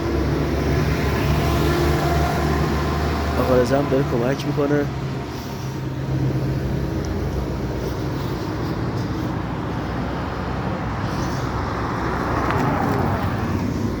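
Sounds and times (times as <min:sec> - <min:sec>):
passing vehicles rumbling: 0:00.0 - 0:14.0.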